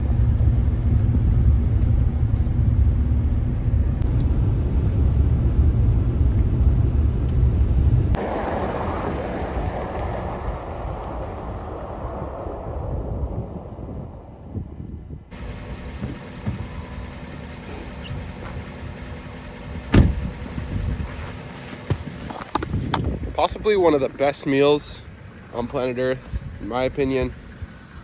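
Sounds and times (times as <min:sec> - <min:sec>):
vehicle rumble in motion: 0:00.0 - 0:28.0.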